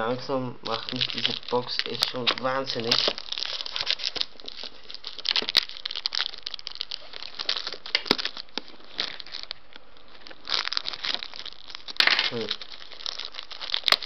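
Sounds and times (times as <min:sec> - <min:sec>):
plastic film crinkling: 0:00.6 - 0:14.0.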